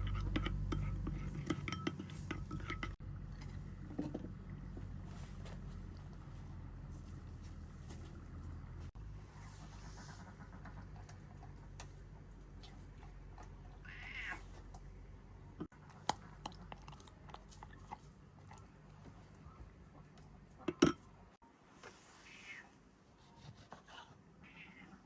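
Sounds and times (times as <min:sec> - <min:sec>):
low background hum: 0:00.0 - 0:21.4.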